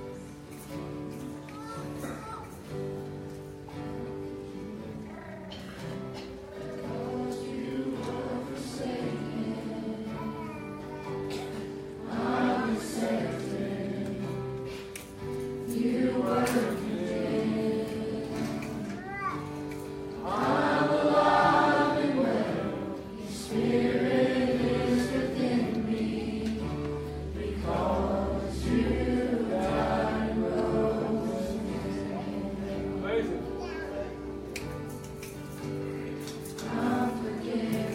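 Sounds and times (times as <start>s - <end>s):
choir singing a hymn: 5.7s - 19.0s, 19.6s - 34.8s, 35.6s - 37.9s.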